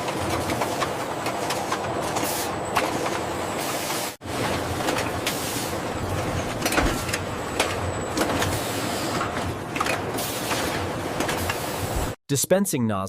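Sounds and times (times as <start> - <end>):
factory machinery running: 0.0 - 12.2.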